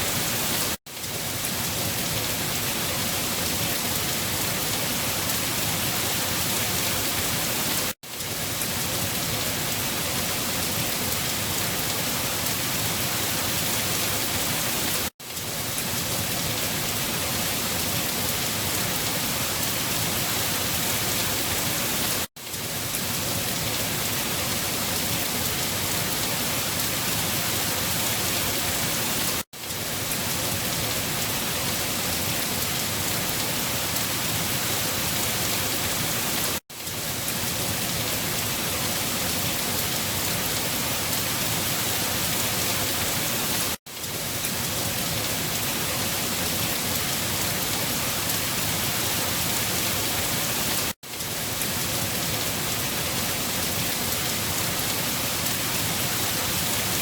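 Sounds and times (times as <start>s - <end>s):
dense rainfall: 0.0s - 57.0s.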